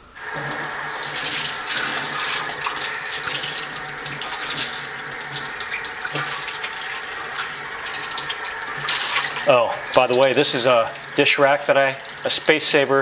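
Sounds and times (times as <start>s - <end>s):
water running from tap into pan: 0.0s - 13.0s.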